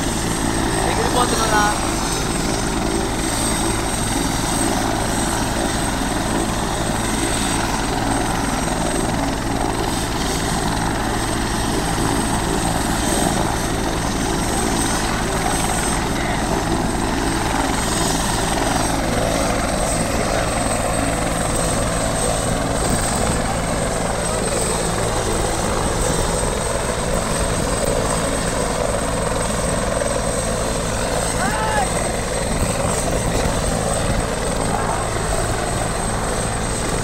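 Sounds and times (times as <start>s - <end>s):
helicopter rotor beating: 0.0s - 37.0s
helicopter turbine whine: 0.0s - 37.0s.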